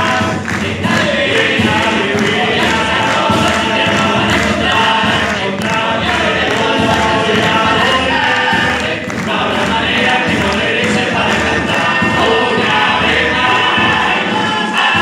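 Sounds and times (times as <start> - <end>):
choir singing in harmony: 0.0 - 15.0.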